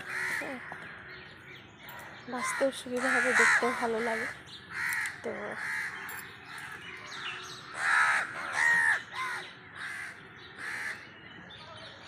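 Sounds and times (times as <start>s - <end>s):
bird harsh calls: 0.0s - 12.0s.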